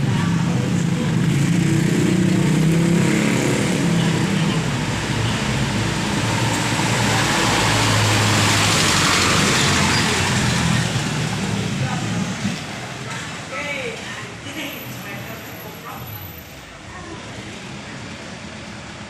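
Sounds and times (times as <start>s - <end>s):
tyre and road noise: 0.0s - 19.0s.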